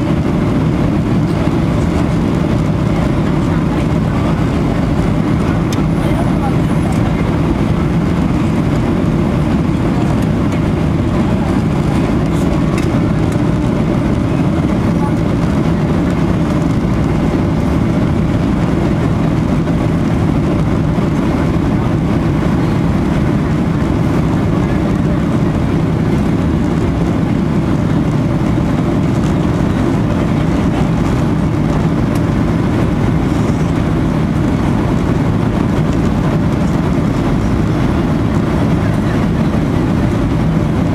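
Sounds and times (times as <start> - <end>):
aircraft drone in flight: 0.0 - 40.9.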